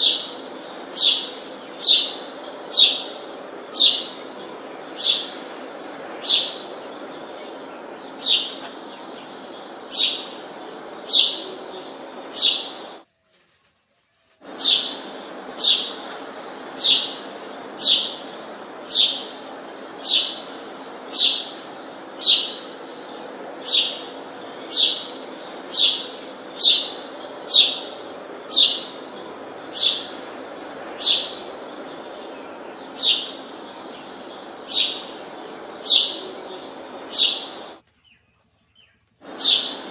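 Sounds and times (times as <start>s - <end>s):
bird chirping: 0.0s - 13.0s, 14.4s - 39.9s
steady background noise: 0.0s - 13.1s, 14.3s - 37.9s, 39.0s - 39.9s.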